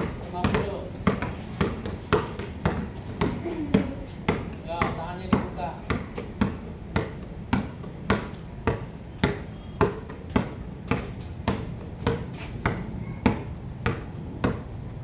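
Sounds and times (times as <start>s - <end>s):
basketball dribbling on court: 0.0s - 15.0s.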